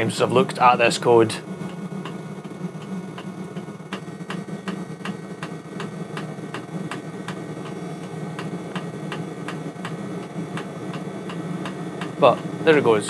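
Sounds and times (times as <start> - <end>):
heater fan hum: 0.0 - 13.0
sharp ticking: 1.4 - 12.9.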